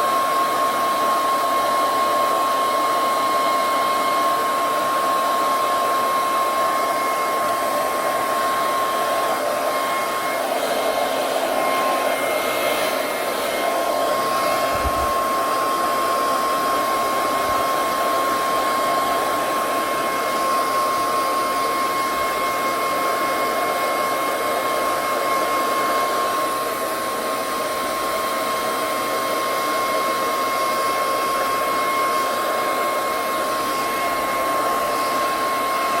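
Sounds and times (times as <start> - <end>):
hair dryer blowing: 0.0 - 36.0.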